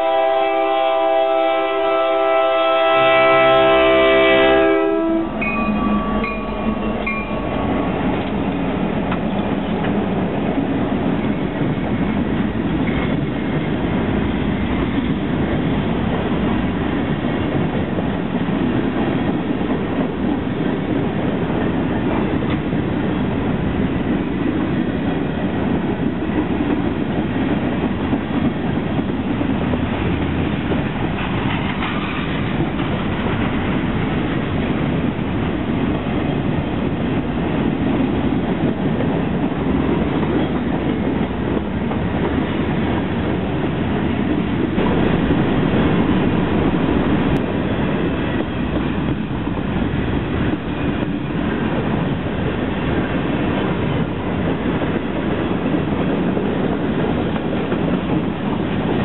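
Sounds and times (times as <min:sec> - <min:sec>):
train wheels running on rails: 0:00.0 - 0:59.0.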